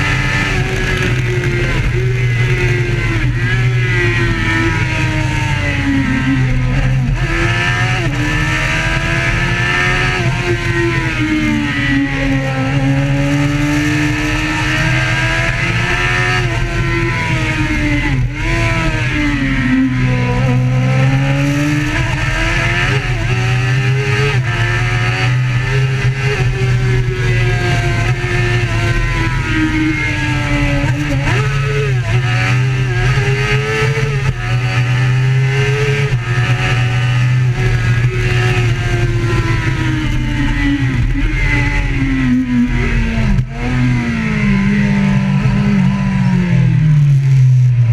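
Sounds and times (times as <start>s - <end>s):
vehicle engine revving: 0.0s - 47.9s.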